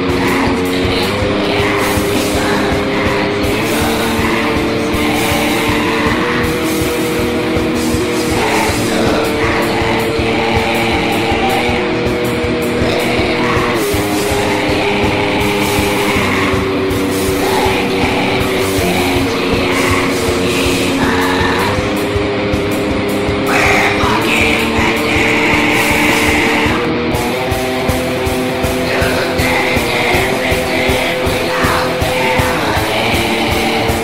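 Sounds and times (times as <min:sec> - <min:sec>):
distorted electric guitars: 0:00.0 - 0:34.0
rapid dense drumming: 0:00.0 - 0:34.0.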